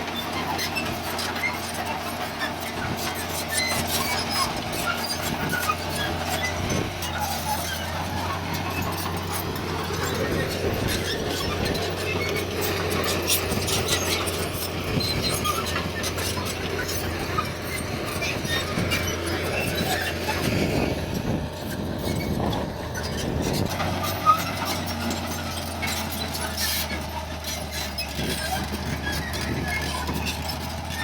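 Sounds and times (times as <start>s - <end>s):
diesel engine droning: 0.0s - 31.0s
metallic squeaks and clanks: 0.0s - 31.0s.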